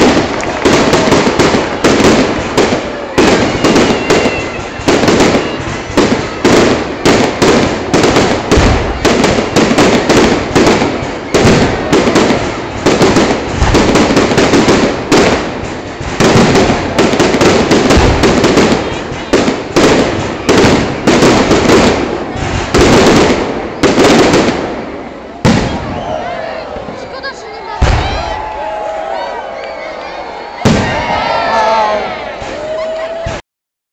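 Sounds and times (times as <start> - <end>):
fireworks bangs and crackles: 0.0 - 33.4.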